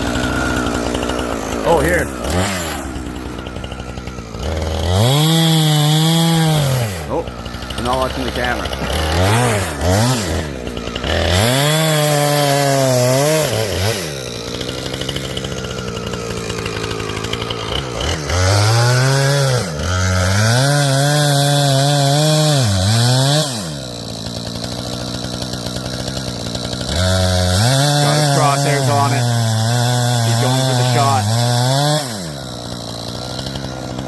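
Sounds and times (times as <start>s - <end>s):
chainsaw engine revving: 0.0s - 34.0s.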